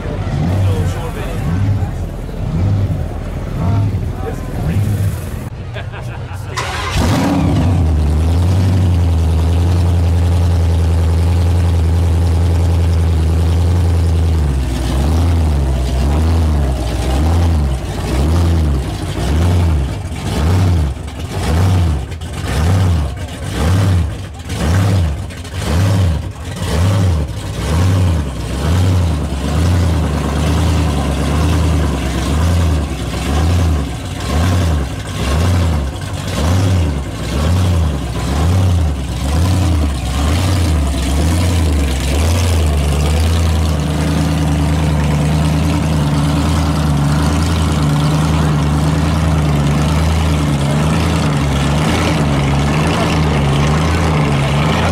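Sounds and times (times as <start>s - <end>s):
car engine idling with lope: 0.0s - 54.9s.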